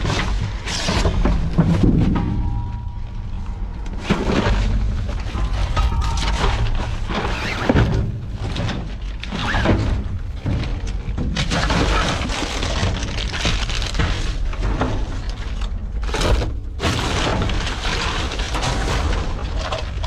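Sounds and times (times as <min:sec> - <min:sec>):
constant low rumble: 0:00.0 - 0:20.0
rustling and clattering of items: 0:00.0 - 0:20.0.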